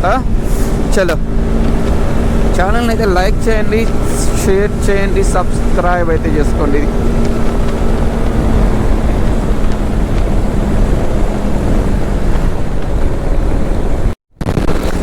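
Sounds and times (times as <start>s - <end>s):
motorcycle engine running: 0.0s - 14.1s
wind rushing over microphone: 0.0s - 14.2s.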